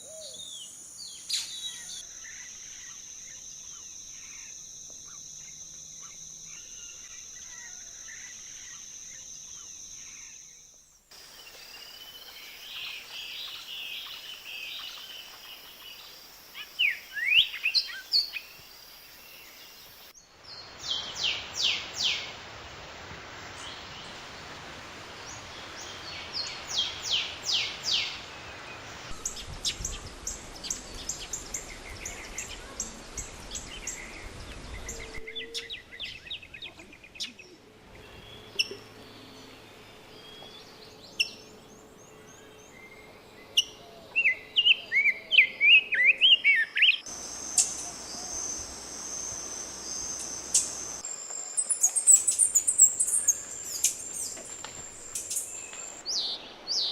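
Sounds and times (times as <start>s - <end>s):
wild birds calling and singing: 0.0s - 10.5s, 11.2s - 22.3s, 25.1s - 56.9s
warbled bird song: 0.0s - 22.4s, 23.5s - 56.9s.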